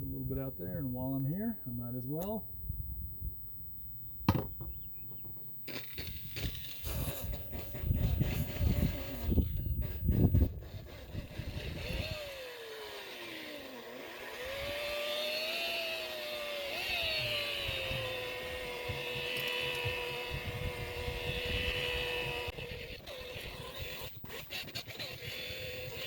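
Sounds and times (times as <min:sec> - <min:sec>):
electric polisher motor whine: 0:04.6 - 0:26.0.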